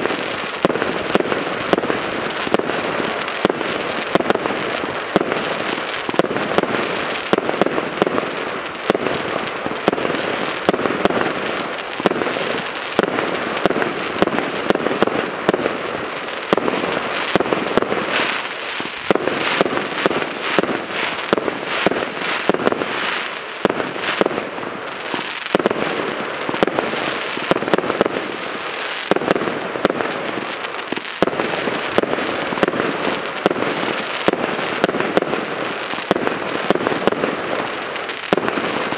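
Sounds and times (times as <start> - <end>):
fireworks crackle: 0.0 - 38.9
fireworks launches and bursts: 0.0 - 38.9.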